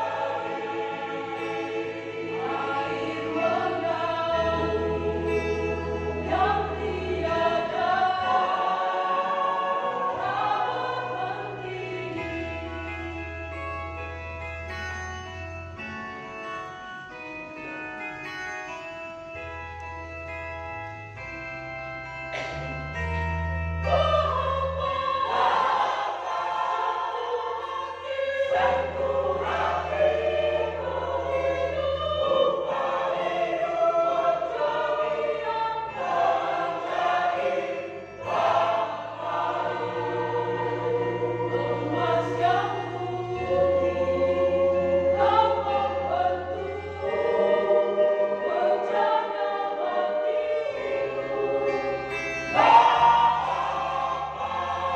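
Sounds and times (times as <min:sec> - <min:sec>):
choir singing: 0:00.0 - 0:13.7, 0:23.8 - 0:54.9
organ chords: 0:00.0 - 0:54.9.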